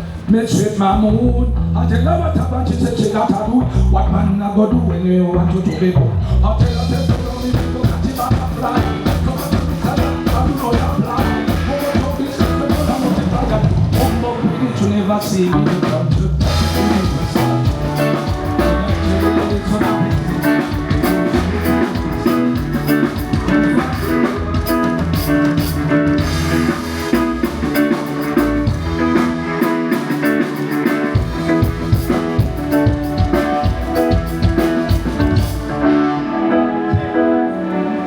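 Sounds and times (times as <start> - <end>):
bass: 0.0 - 37.4
guitar: 0.0 - 38.0
drum kit: 6.6 - 37.4
band playing instrumental: 6.6 - 38.0.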